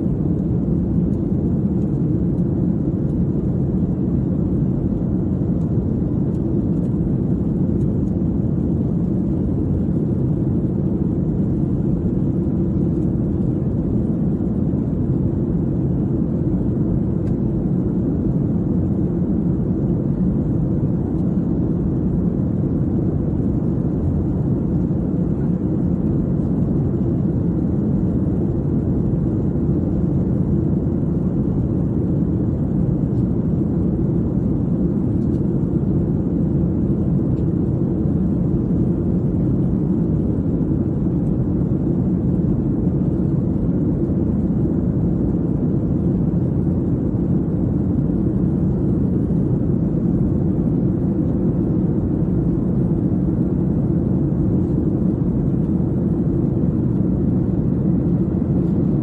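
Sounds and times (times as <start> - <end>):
jet engines droning: 0.0 - 59.0.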